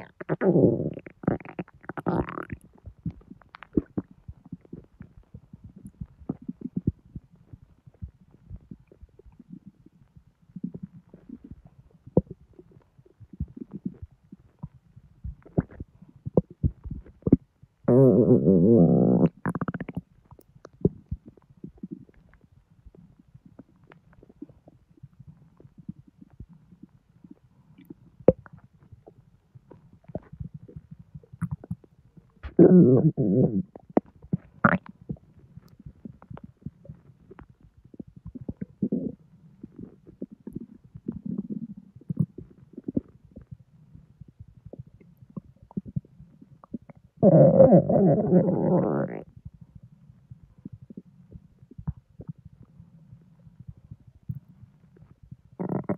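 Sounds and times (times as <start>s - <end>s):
stomach growl: 0.0s - 55.9s
stomach gurgling and popping: 0.0s - 55.9s.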